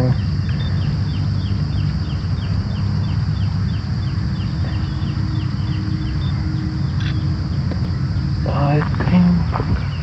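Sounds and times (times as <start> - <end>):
bird calling high downward notes: 0.0 - 8.5
loud low rumble: 0.0 - 10.0.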